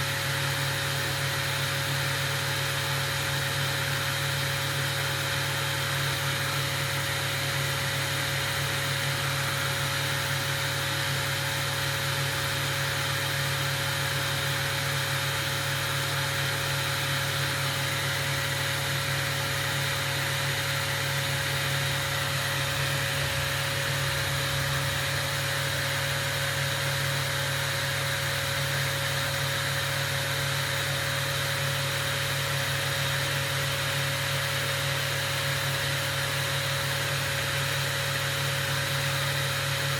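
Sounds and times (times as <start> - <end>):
workshop equipment low hum: 0.0 - 39.9.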